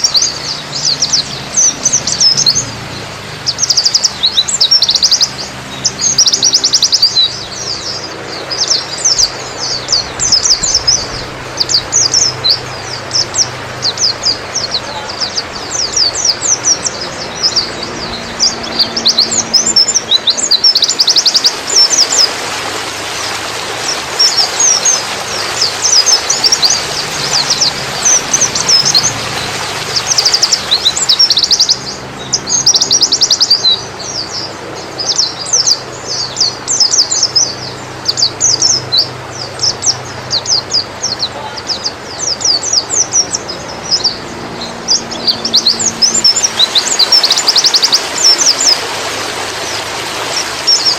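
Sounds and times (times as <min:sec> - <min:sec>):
bird twittering chirps and trills: 0:00.0 - 0:50.9.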